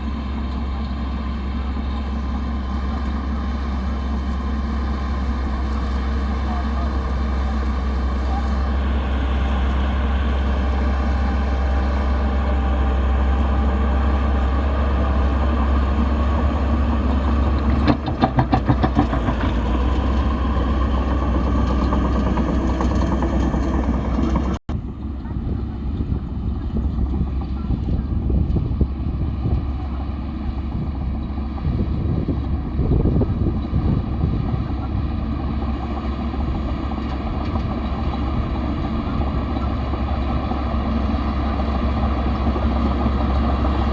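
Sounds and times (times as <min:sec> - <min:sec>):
diesel engine humming: 0:00.0 - 0:43.9.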